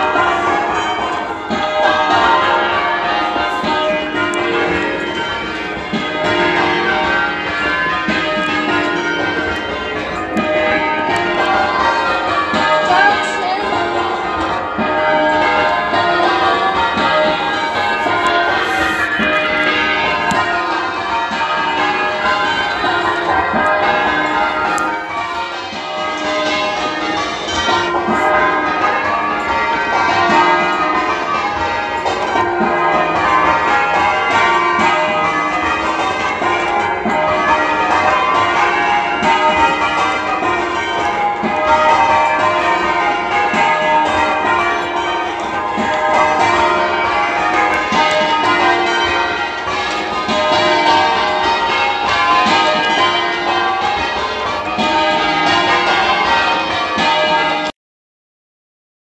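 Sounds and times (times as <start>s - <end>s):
church bells change ringing: 0.0s - 57.7s.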